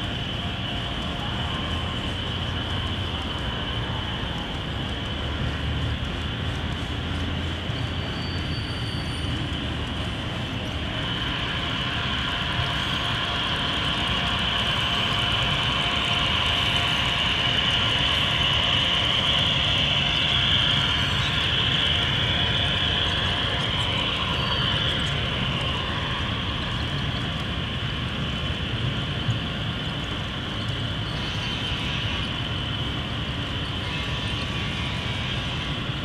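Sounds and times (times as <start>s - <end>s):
model train rolling: 0.0s - 36.0s.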